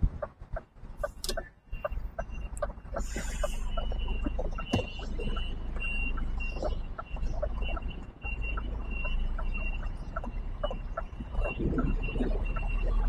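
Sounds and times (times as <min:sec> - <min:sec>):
diesel truck engine rumble: 0:00.0 - 0:13.0
reversing alarm beeping: 0:01.3 - 0:13.0.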